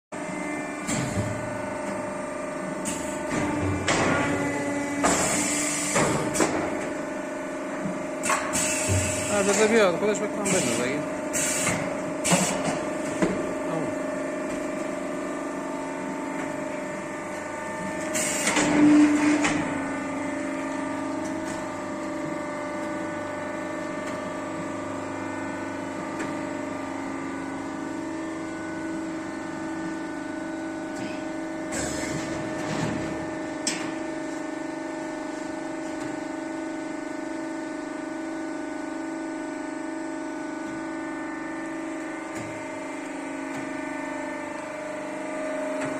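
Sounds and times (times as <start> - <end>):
bagging machine motors humming: 0.2 - 45.9.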